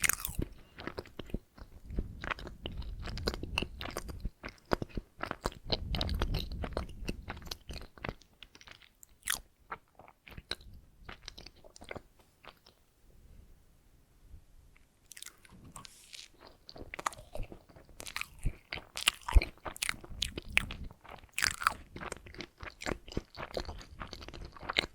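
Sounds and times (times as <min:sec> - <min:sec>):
chewing with mouth clicks: 0:00.0 - 0:12.8, 0:15.1 - 0:24.9.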